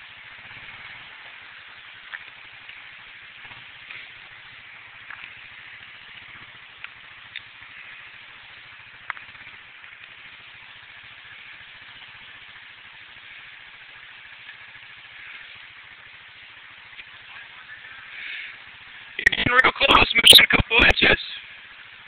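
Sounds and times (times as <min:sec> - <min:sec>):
water hissing: 0:00.0 - 0:19.2
atv engine running: 0:00.0 - 0:22.0.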